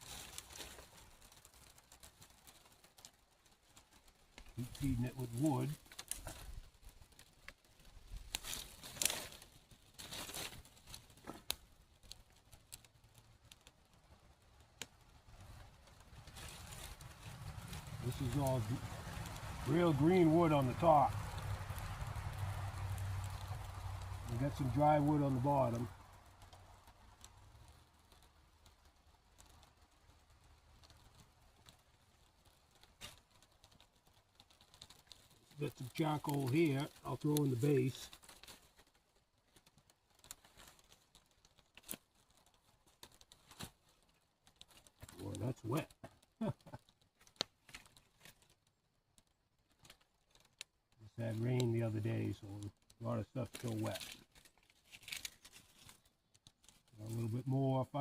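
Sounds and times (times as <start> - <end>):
rustling of sticks: 0.0 - 58.0
wood fire crackling: 0.0 - 58.0.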